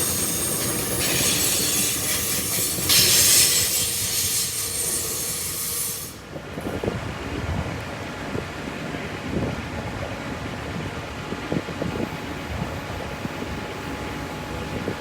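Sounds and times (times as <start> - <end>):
train rolling by: 0.0 - 15.0.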